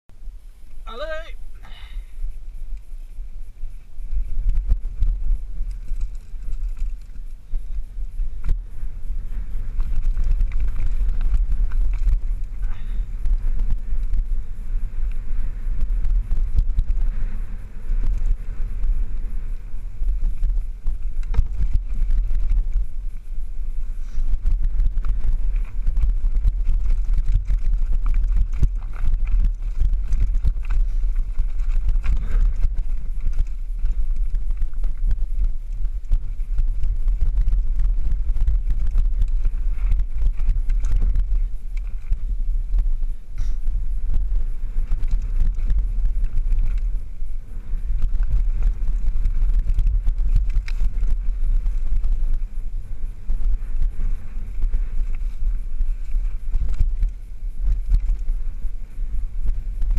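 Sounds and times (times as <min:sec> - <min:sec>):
wind rumble on microphone: 0:00.1 - 0:59.9
bike frame rattling: 0:00.2 - 0:59.9.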